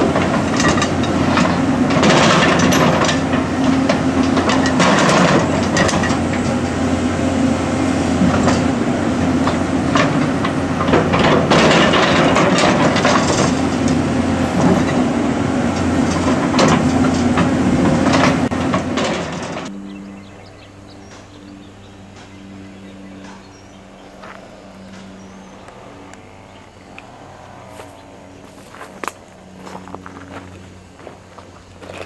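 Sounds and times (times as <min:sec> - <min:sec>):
diesel engine drone: 0:00.0 - 0:32.0.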